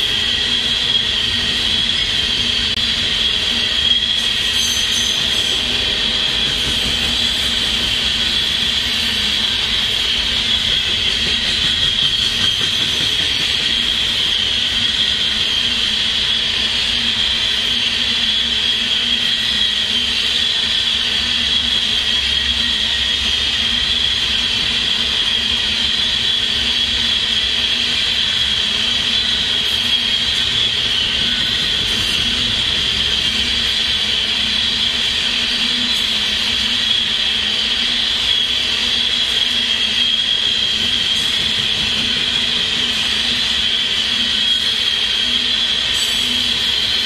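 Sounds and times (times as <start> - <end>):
freight train rumbling past: 0.0 - 47.0.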